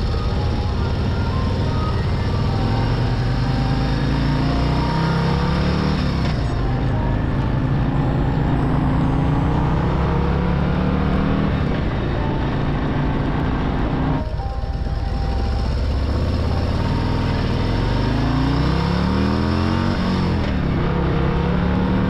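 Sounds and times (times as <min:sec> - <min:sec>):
motorcycle engine running: 0:00.0 - 0:22.0
road and wind noise: 0:00.0 - 0:22.0.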